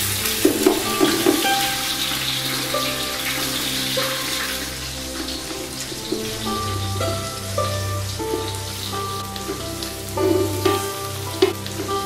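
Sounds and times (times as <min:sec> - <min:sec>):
oil sizzling in a pot: 0:00.0 - 0:12.0.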